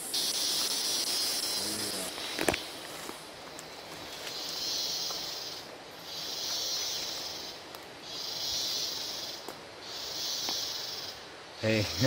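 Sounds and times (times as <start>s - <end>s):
insect buzzing in pulses: 0.0s - 12.0s.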